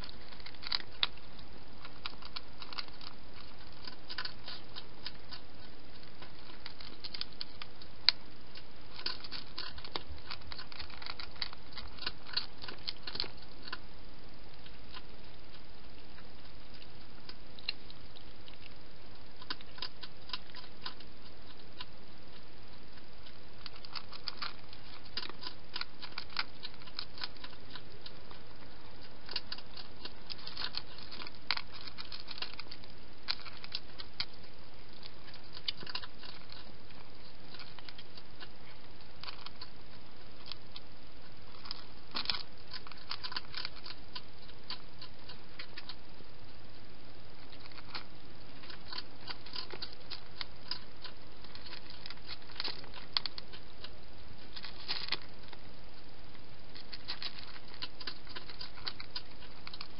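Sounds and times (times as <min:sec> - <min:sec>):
cat crunching dry food: 0:00.0 - 0:59.9.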